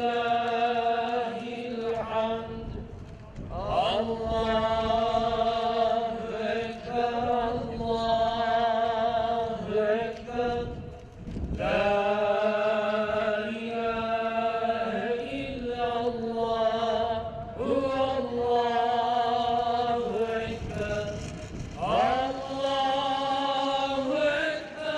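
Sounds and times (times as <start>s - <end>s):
man chanting religious recitation: 0.0s - 10.8s, 11.6s - 24.9s.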